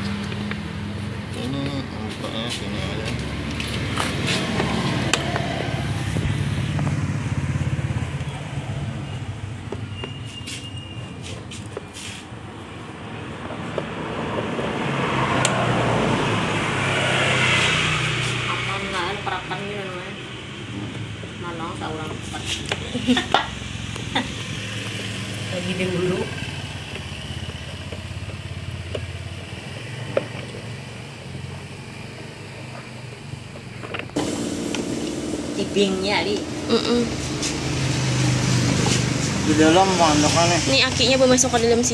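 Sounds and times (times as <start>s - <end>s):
road noise: 0.0s - 41.9s
vehicle engine hum: 0.0s - 41.9s.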